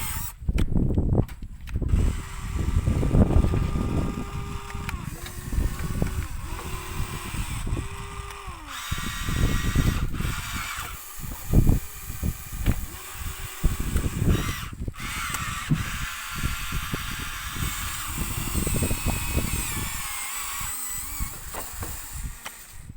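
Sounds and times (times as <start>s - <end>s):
small electric motors whining: 0.0s - 0.4s, 1.8s - 22.9s
low bumping and rumbling: 0.1s - 22.9s.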